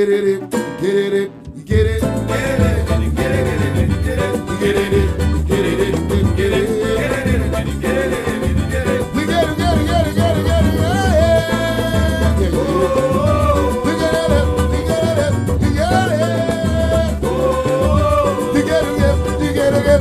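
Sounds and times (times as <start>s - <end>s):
percussive groove: 1.7s - 20.0s.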